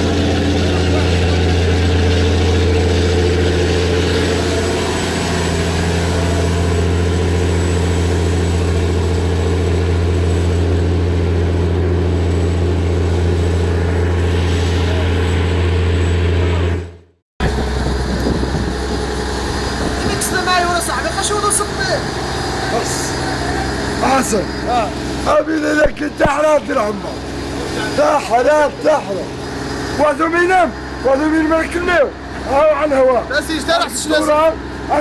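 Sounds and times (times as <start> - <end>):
motor boat engine droning: 0.0 - 35.0.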